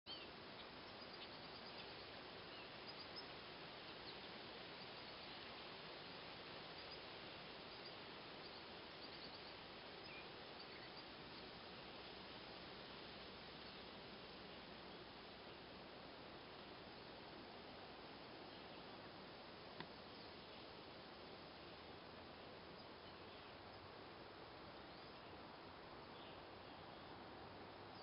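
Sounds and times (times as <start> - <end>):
steady outdoor hiss: 0.1 - 28.0.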